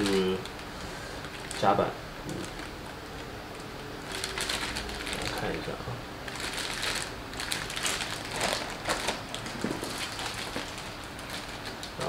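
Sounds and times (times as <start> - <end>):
plastic bags crinkling: 0.0 - 3.3, 4.0 - 12.0.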